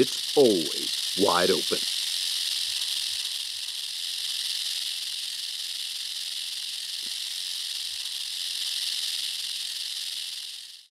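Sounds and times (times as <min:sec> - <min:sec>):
rattlesnake rattling: 0:00.0 - 0:10.9.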